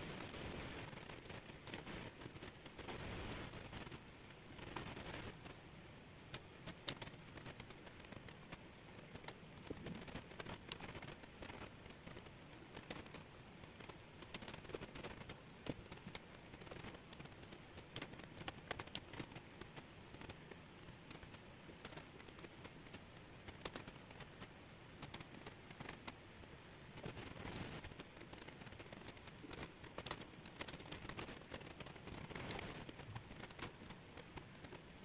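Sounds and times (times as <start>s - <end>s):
wooden puzzle pieces clicking: 6.3s - 26.2s, 26.9s - 35.0s.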